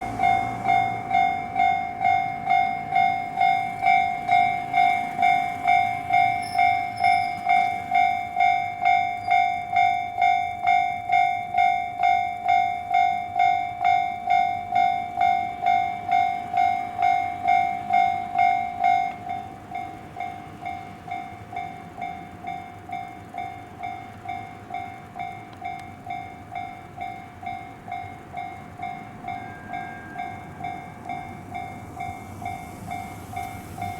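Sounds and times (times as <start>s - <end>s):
level-crossing electronic bell: 0.0s - 33.9s.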